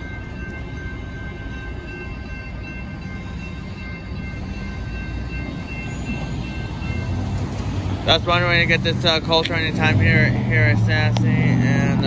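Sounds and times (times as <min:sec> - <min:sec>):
crossing bell ringing: 0:00.0 - 0:12.0
freight train rumble: 0:00.0 - 0:12.0.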